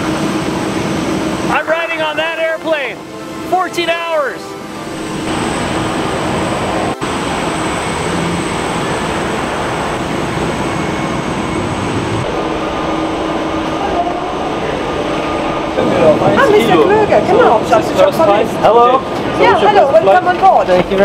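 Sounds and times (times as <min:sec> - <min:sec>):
thin high whine: 0:00.0 - 0:20.0
jet aircraft roar: 0:00.0 - 0:21.0.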